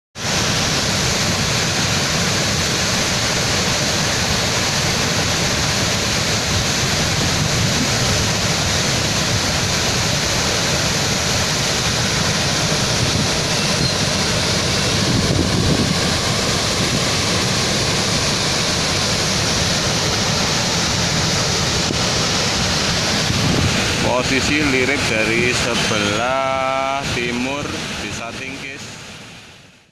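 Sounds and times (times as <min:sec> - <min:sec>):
waterfall rushing: 0:00.2 - 0:29.8.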